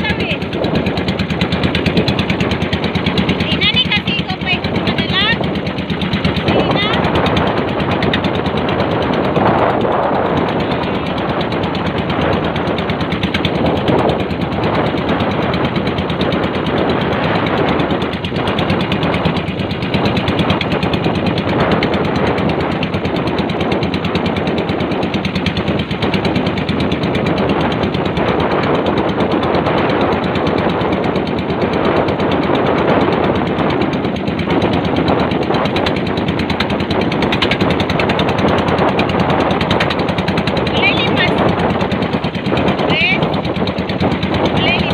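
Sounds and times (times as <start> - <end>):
boat engine chattering: 0.0 - 44.9.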